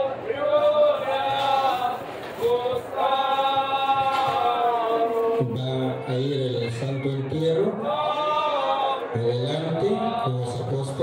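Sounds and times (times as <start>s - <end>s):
voices singing a slow chant: 0.0s - 11.0s.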